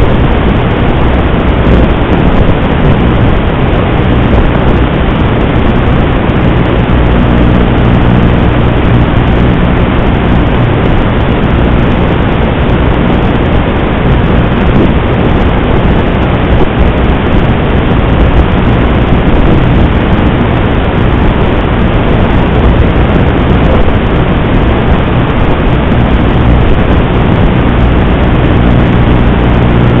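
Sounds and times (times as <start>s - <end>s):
loud steady rushing noise: 0.0s - 30.0s
low hum: 0.0s - 30.0s.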